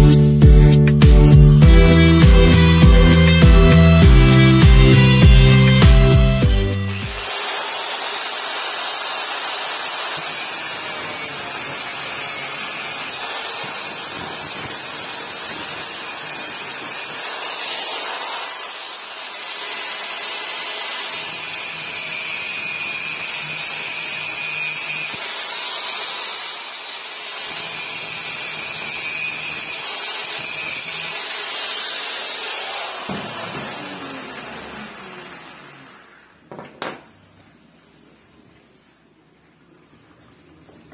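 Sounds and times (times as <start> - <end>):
power tool running under load: 1.0 - 36.4.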